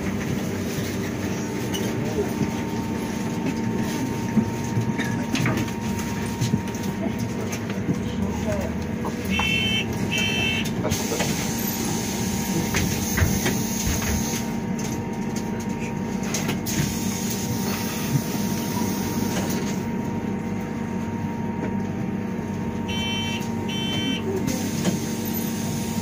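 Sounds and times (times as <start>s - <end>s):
bus interior hum: 0.0s - 26.0s.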